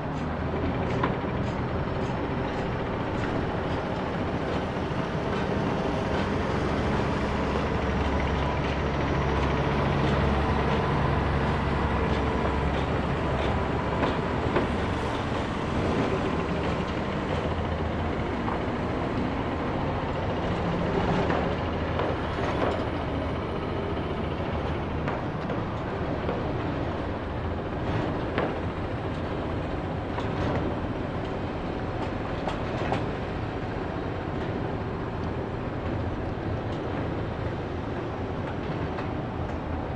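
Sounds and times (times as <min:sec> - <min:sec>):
construction site noise: 0:00.0 - 0:39.9.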